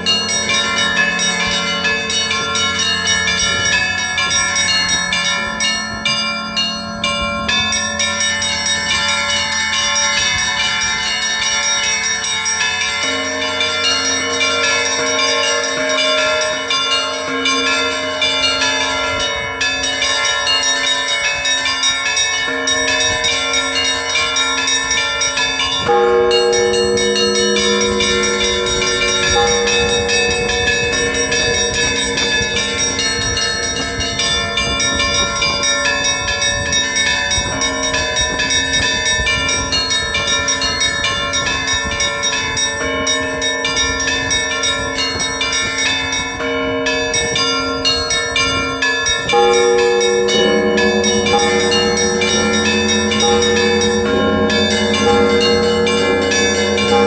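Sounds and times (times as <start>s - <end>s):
deeper bells ringing: 0.0s - 57.0s
loud low bell stroke: 0.0s - 57.0s
small bells ringing quickly: 0.0s - 57.0s.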